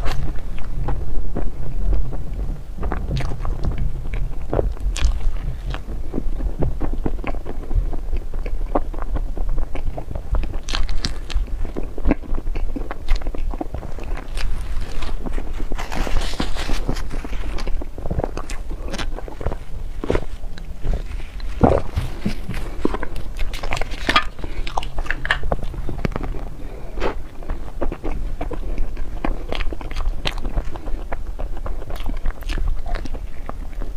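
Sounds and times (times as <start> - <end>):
dessert being bitten and chewed: 0.0 - 33.9
low rumble: 0.0 - 33.9.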